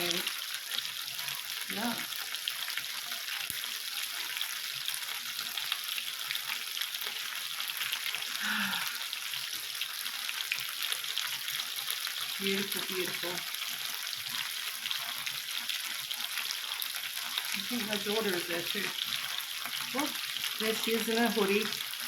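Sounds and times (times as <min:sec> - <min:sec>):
chicken sizzling on a grill: 0:00.0 - 0:22.0.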